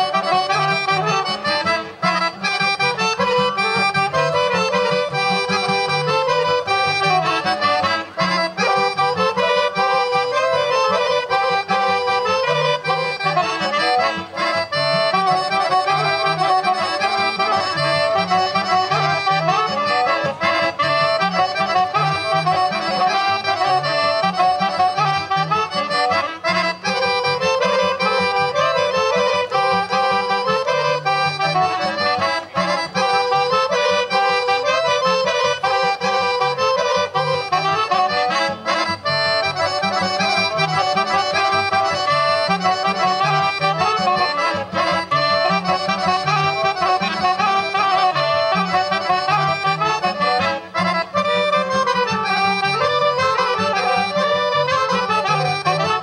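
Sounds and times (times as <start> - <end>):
accordion folk dance music: 0.0 - 56.0.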